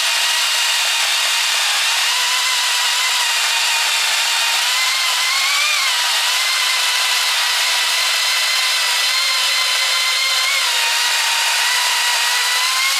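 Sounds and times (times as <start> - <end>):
electric chainsaw whining: 0.0 - 12.9.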